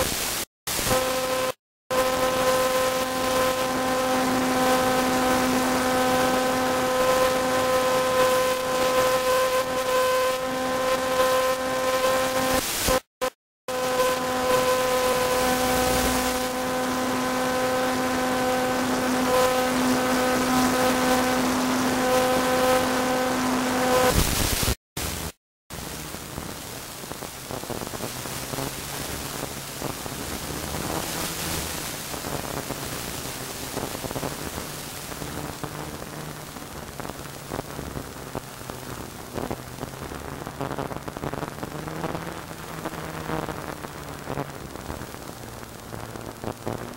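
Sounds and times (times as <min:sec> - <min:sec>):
aircraft engine drone: 0:00.8 - 0:12.8, 0:13.7 - 0:24.1, 0:25.8 - 0:46.6.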